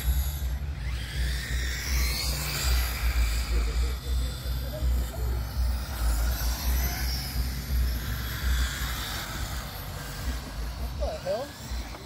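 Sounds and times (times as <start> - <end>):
radio-controlled cars whining: 0.0 - 12.0.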